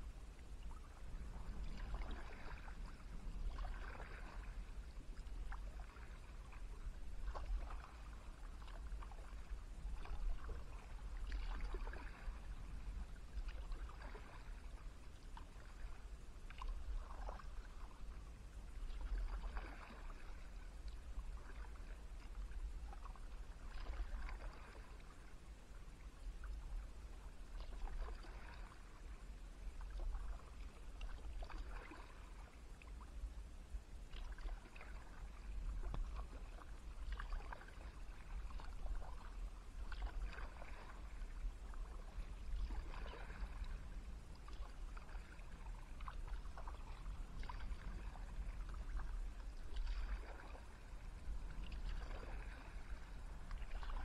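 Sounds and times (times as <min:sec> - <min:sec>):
steady low rumble: 0:00.0 - 0:54.0
paddle splashing in water: 0:00.7 - 0:33.0, 0:34.1 - 0:54.0.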